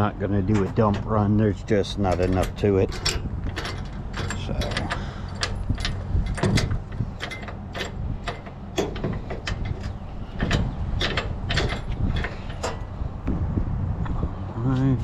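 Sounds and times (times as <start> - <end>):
steady low hum: 0.0 - 15.0
scrap metal clanking: 0.4 - 13.0.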